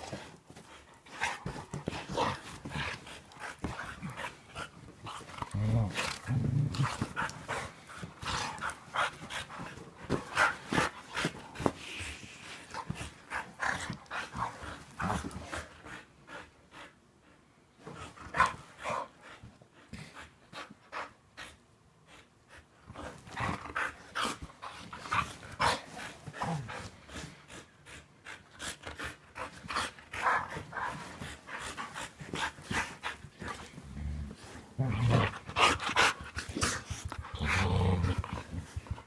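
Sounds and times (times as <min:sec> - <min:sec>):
dogs panting: 0:00.0 - 0:34.6, 0:35.2 - 0:39.0.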